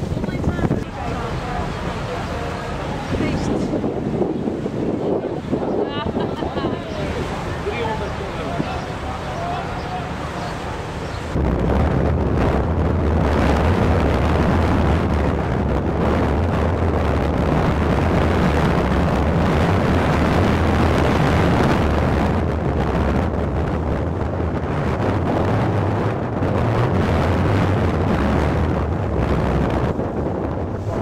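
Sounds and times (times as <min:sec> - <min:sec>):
boat engine drone: 0:00.0 - 0:31.0
wind buffeting microphone: 0:00.0 - 0:31.0.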